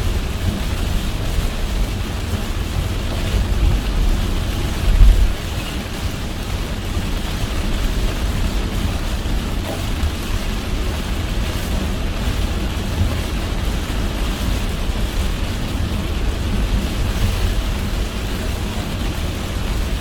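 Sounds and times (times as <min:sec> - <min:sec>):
car tyres and engine rumble: 0:00.0 - 0:20.0
rain hiss: 0:00.0 - 0:20.0.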